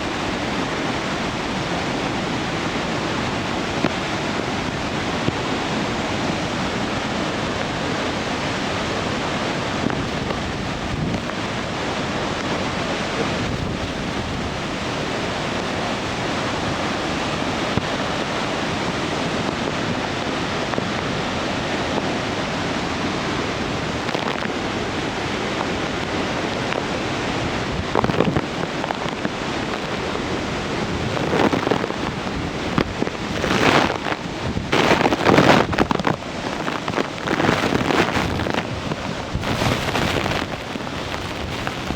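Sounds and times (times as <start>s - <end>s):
waterfall rushing: 0.0s - 41.9s
wind buffeting microphone: 0.0s - 41.9s.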